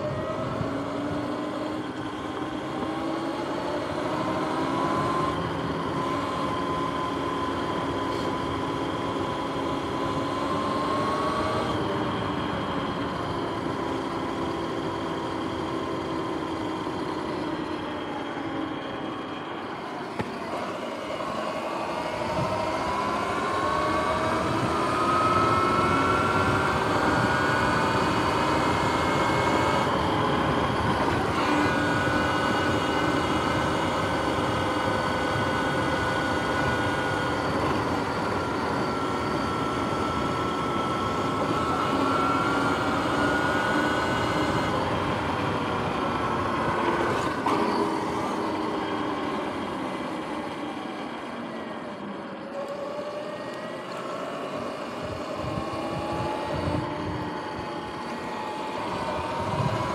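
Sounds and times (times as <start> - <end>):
electric motor whining: 0.0 - 59.9
wind and tyre rush: 0.0 - 59.9.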